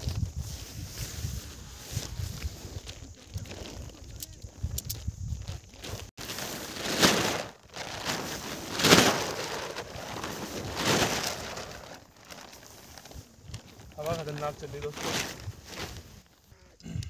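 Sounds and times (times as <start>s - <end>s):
tent fabric flapping in wind: 0.0s - 16.4s.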